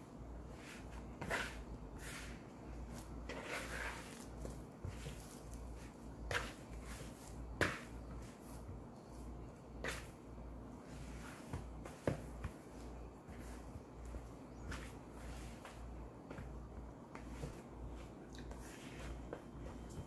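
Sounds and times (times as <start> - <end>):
hand kneading dough: 0.1 - 20.0.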